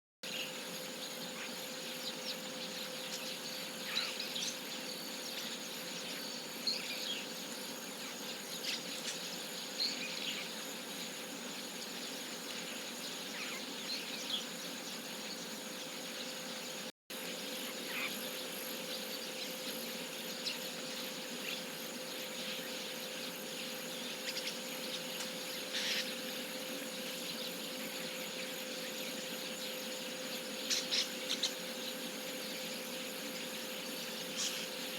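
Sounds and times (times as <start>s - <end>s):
insect drone: 0.2s - 34.9s
starlings chirping: 0.2s - 34.9s.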